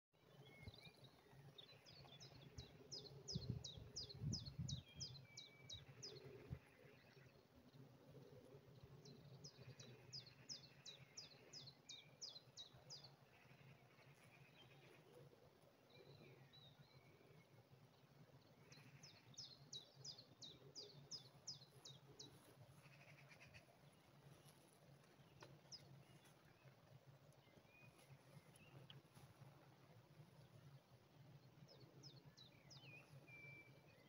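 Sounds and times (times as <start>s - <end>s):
songbird singing: 0.2s - 34.0s.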